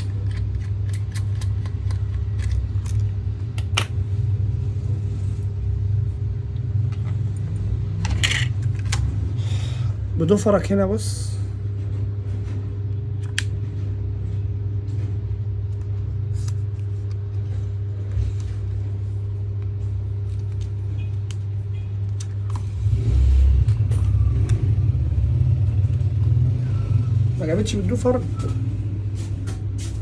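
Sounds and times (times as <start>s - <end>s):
constant hum: 0.0s - 30.0s.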